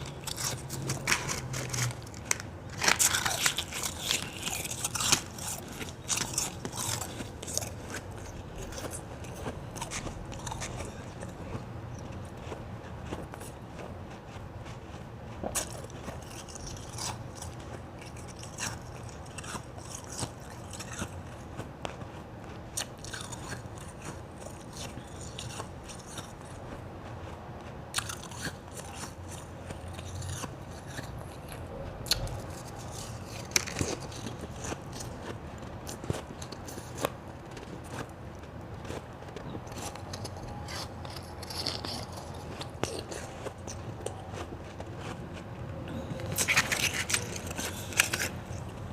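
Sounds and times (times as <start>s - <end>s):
chewing crunching ice: 0.0s - 48.9s.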